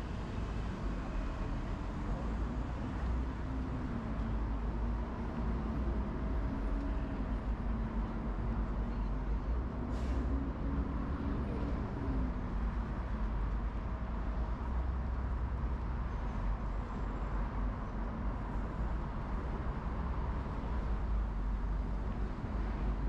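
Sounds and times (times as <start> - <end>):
busy road traffic rumble: 0.0 - 23.0.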